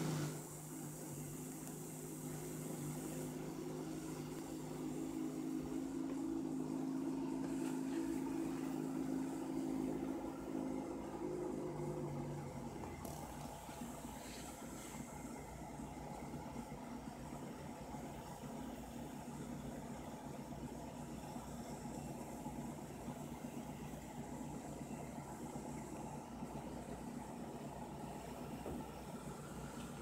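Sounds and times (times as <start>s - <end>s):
aquarium pumps humming: 0.0s - 30.0s.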